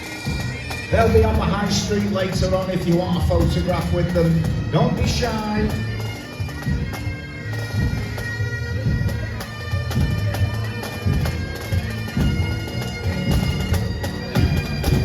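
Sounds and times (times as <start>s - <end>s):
bagpipe band playing a tune: 0.0s - 15.0s.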